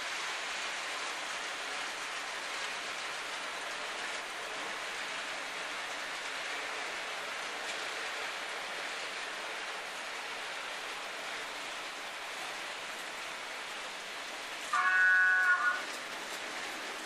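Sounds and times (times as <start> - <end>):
model trains running on track: 0.0 - 17.0.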